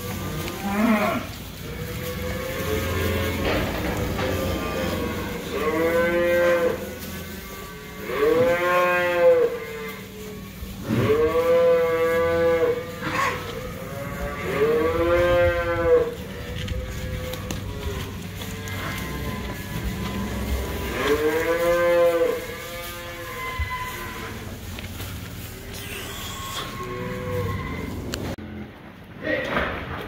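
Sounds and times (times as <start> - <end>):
cattle mooing: 0.0 - 24.6, 25.5 - 28.6.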